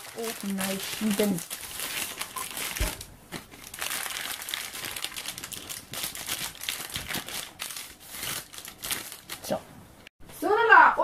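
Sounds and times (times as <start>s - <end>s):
baking paper crinkling: 0.0s - 9.6s.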